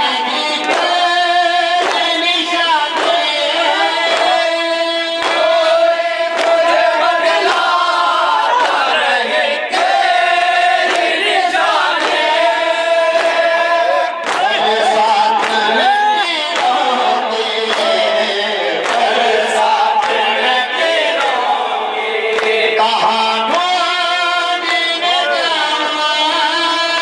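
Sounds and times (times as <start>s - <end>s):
chorus of men singing: 0.0s - 27.0s
man singing into a microphone: 0.0s - 27.0s.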